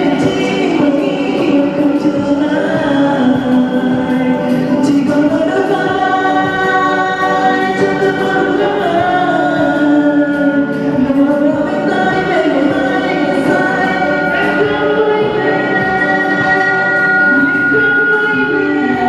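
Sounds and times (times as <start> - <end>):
backing track: 0.0 - 19.0
person singing ballad: 0.0 - 19.0.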